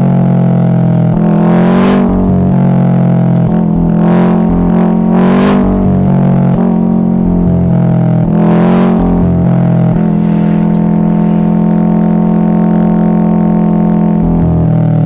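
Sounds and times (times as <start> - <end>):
car engine and exhaust droning: 0.0 - 15.0.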